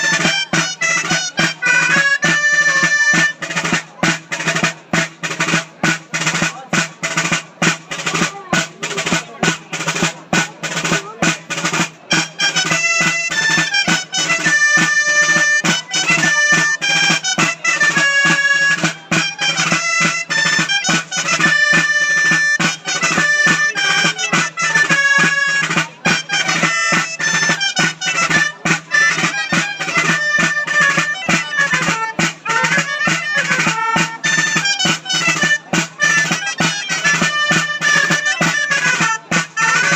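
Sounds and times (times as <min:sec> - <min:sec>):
drum beating steady rhythm: 0:00.0 - 0:39.9
shawm melody: 0:00.0 - 0:39.9.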